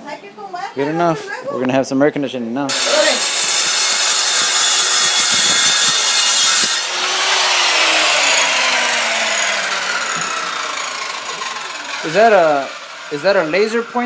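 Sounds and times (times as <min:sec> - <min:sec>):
power saw cutting wood: 0:02.7 - 0:14.0
saw motor winding down whine: 0:02.7 - 0:14.0.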